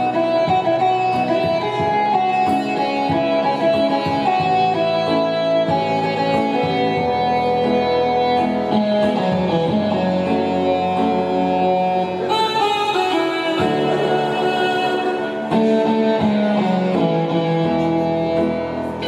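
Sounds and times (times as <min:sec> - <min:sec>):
instrumental guitar music: 0:00.0 - 0:19.0.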